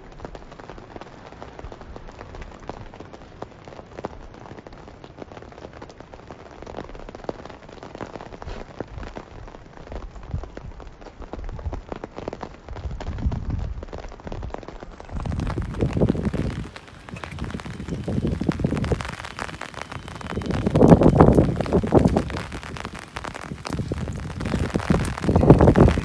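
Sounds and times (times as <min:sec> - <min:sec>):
raindrops on hard surfaces: 0:00.0 - 0:26.0.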